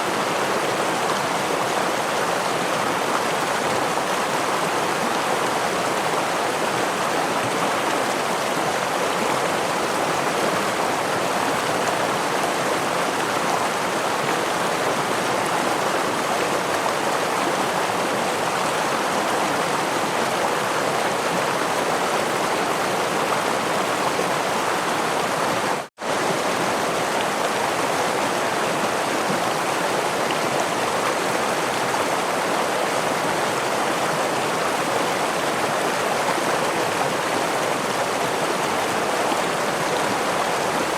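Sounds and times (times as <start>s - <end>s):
stream and small waterfall rushing: 0.0s - 40.9s.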